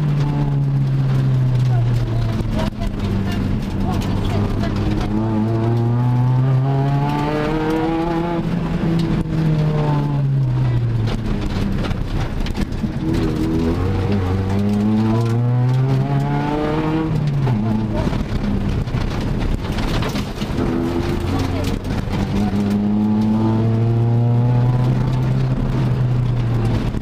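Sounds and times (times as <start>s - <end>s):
car engine revving under acceleration: 0.0s - 27.0s.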